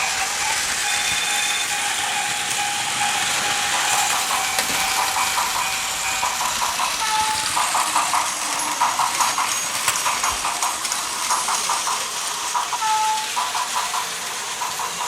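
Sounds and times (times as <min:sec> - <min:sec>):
hiss: 0:00.0 - 0:15.0
toy train motor whine: 0:00.0 - 0:15.0.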